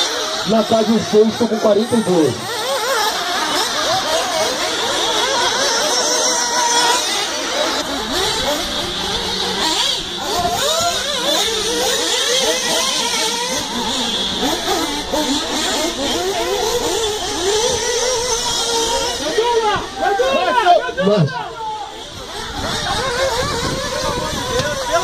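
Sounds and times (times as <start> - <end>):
rc car engines whining: 0.0 - 25.0.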